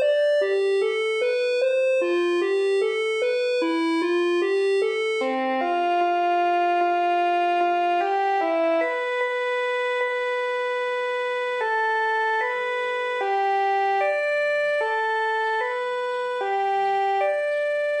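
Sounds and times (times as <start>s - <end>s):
synthesized keyboard chords: 0.0s - 18.0s.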